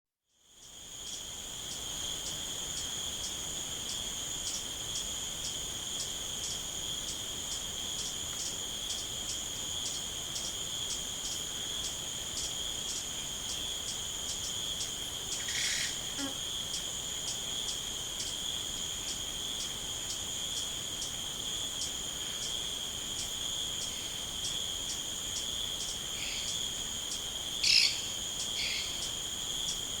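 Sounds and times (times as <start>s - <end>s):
insects trilling: 0.4s - 30.0s.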